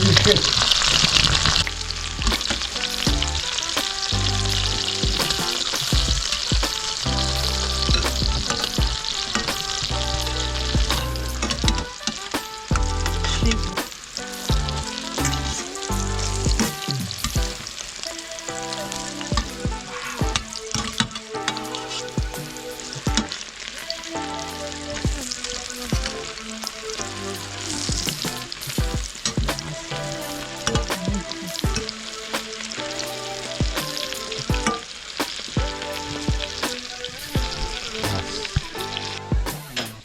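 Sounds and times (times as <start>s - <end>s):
food sizzling in a frying pan: 0.0s - 39.8s.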